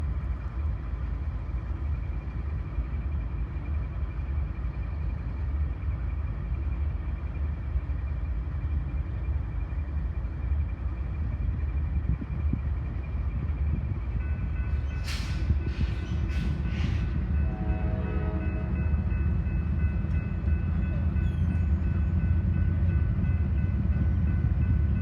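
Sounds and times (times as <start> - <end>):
diesel freight train rumble: 0.0 - 25.0.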